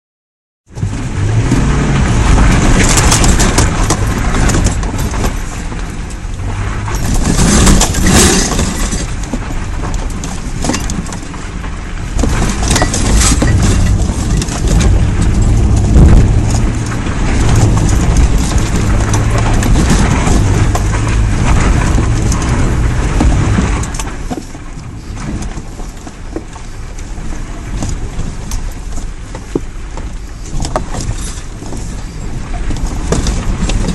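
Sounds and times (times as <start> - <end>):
truck engine under load: 0.7 - 33.9.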